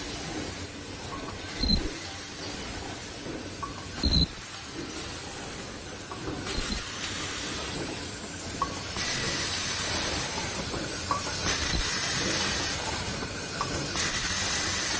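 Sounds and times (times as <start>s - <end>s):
machine hiss and clatter: 0.0s - 14.9s.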